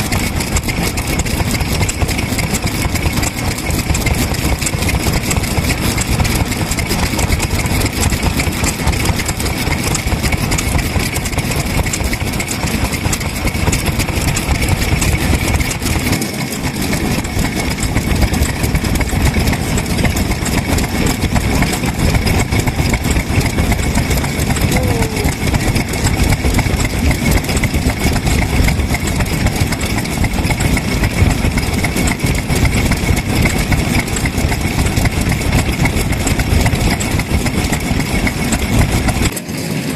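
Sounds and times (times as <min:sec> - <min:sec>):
stationary engine chugging: 0:00.0 - 0:39.9.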